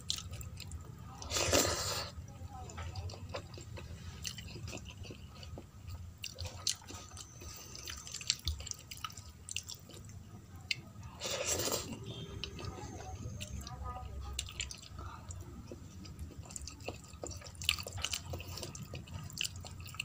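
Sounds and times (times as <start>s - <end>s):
wet eating sounds: 0.0s - 20.0s.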